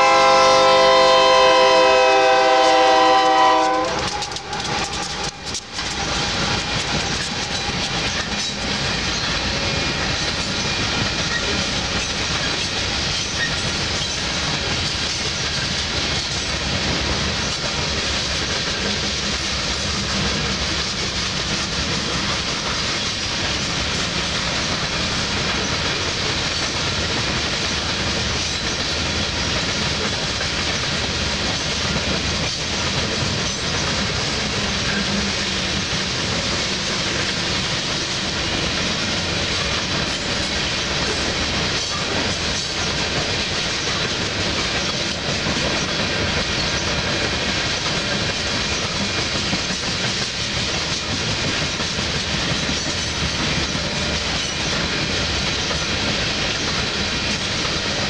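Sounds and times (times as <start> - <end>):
steel wheels on rail: 0.0 - 58.0
train wheels clacking: 0.0 - 58.0.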